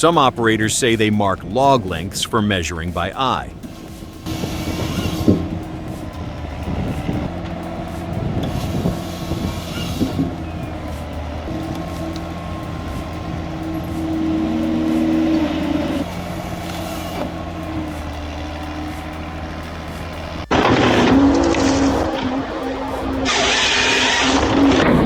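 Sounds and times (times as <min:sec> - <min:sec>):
heavy engine running: 0:00.0 - 0:25.0
rough engine with hiss: 0:00.0 - 0:25.0.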